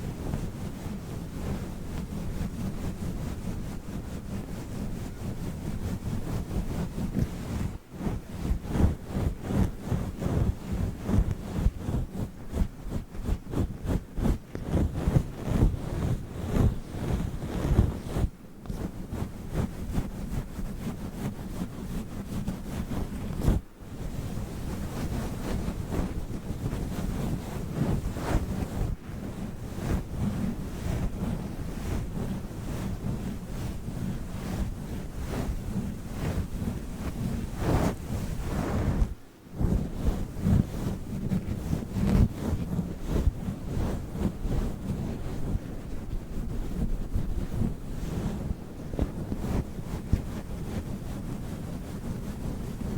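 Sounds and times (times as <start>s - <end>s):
microphone cover rustling: 5.9s - 21.6s, 24.7s - 52.9s.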